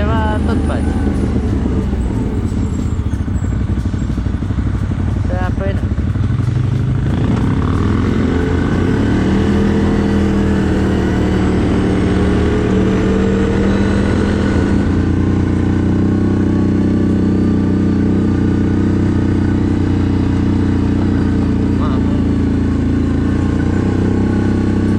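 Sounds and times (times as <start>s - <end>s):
atv engine running: 0.0s - 24.9s.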